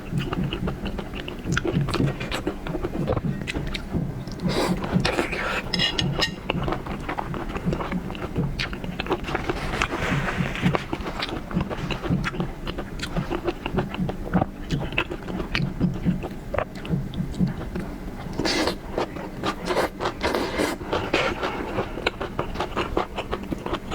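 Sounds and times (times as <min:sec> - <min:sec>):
chewing and crunching: 0:00.0 - 0:23.9.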